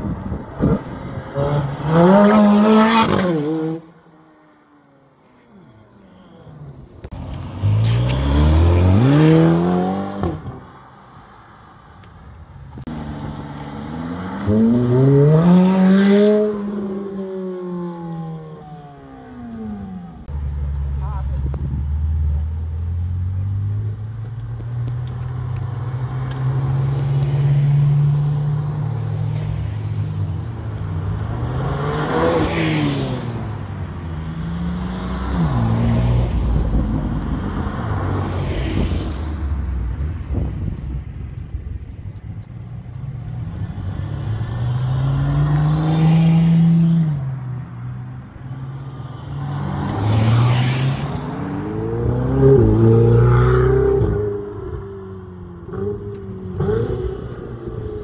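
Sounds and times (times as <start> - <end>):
sports cars revving past: 0.0 - 4.7, 7.1 - 11.0, 12.8 - 20.1, 22.1 - 40.5, 43.6 - 58.0.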